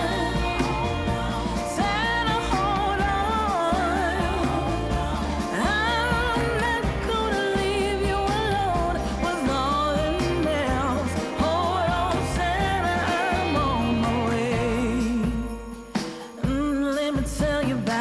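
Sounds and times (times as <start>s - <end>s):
pop christmas music: 0.0s - 18.0s.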